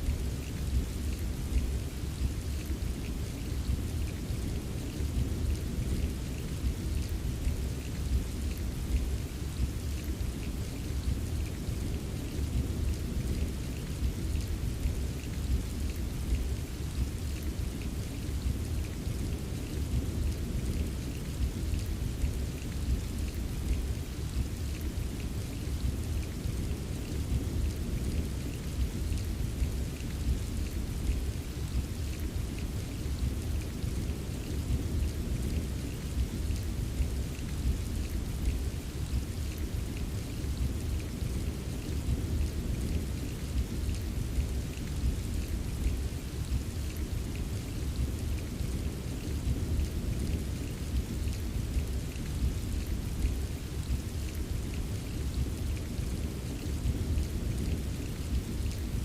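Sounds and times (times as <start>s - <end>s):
rain drops tapping: 0.0s - 59.0s.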